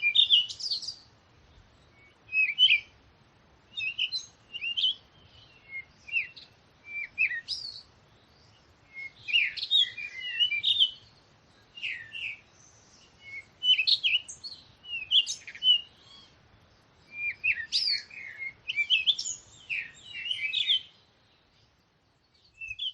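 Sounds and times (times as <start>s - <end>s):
songbirds chirping and trilling: 0.0s - 22.9s.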